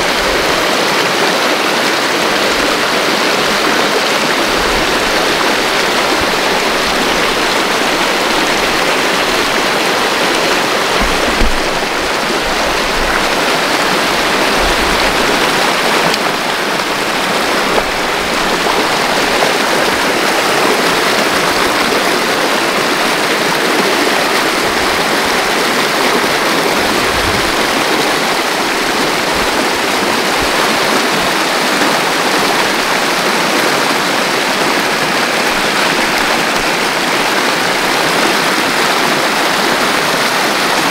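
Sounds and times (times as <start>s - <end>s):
floodwater rushing down a creek: 0.0s - 40.9s.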